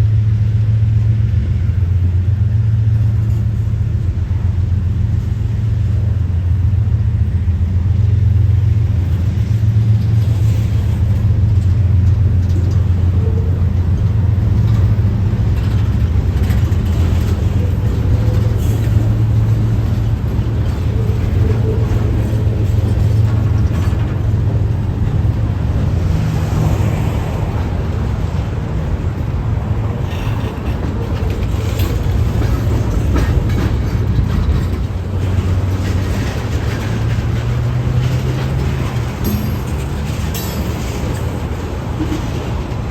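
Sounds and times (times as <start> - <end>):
freight train rumbling on rails: 0.0 - 42.9.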